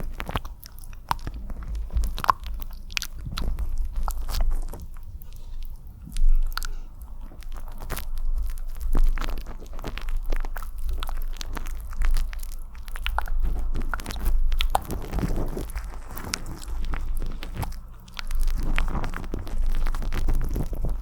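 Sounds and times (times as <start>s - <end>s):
steady low hum: 0.0s - 21.0s
wet mouth clicks and smacks: 0.0s - 21.0s.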